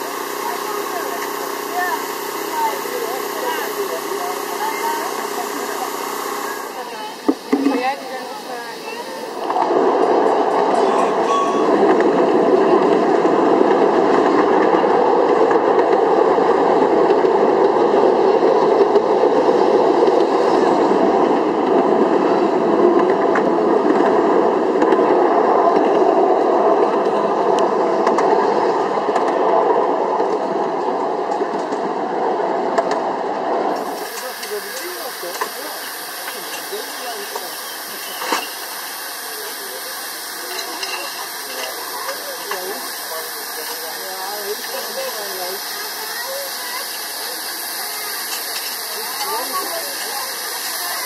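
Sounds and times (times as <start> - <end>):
small train wheels rumbling on rails: 0.0 - 51.0.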